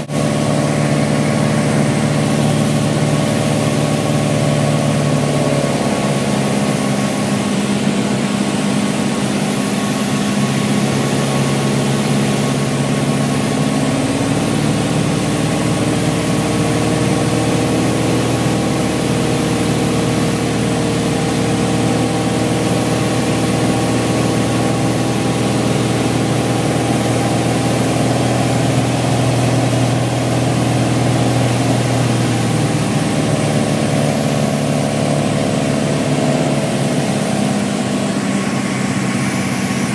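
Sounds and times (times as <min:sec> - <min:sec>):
small airplane engine droning: 0:00.0 - 0:39.9.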